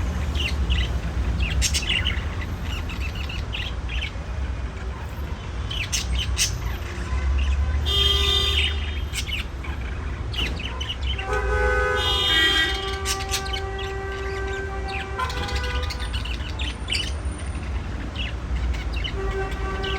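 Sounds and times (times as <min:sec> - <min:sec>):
budgerigars chirping: 0:00.0 - 0:19.9.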